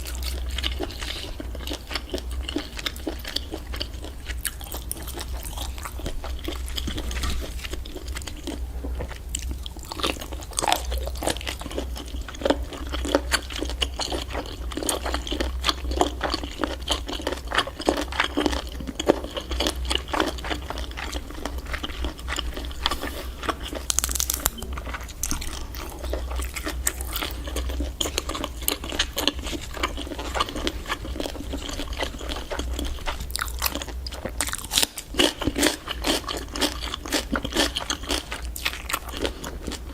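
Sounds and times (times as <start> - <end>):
person chewing crunchily: 0.0 - 39.9.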